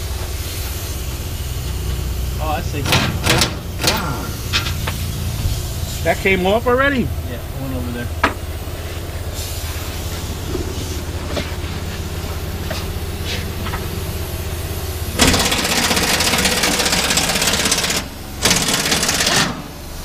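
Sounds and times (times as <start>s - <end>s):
low machine hum: 0.0s - 20.0s
pneumatic impact wrench rattling: 0.4s - 6.4s, 8.2s - 20.0s.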